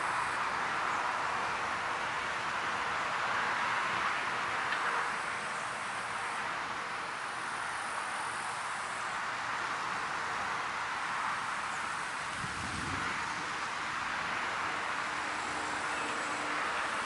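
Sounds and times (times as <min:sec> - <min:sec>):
breeze and water hissing: 0:00.0 - 0:17.0.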